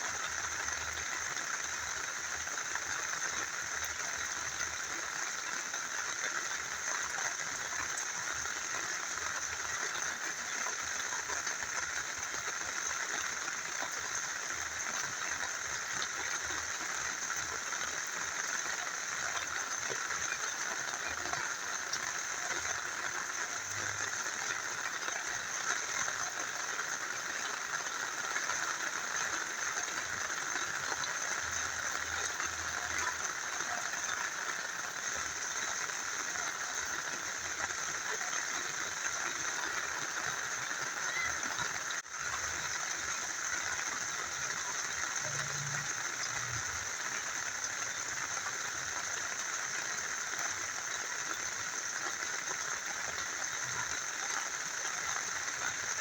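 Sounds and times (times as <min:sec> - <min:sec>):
rain falling: 0:00.0 - 0:56.0
small river flowing: 0:00.0 - 0:56.0.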